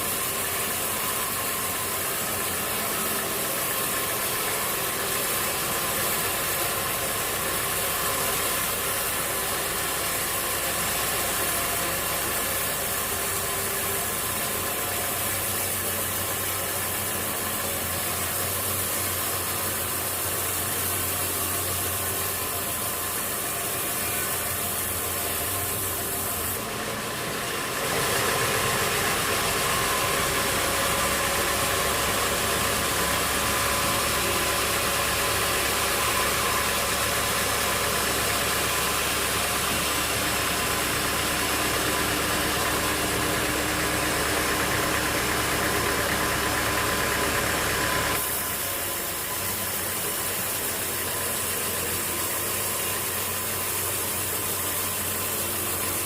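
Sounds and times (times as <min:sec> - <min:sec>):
sawmill machinery droning and rattling: 0:00.0 - 0:56.0.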